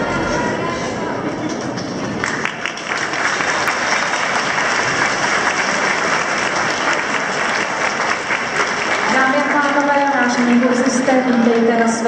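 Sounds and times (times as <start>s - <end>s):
audience applause: 1.4s - 12.0s.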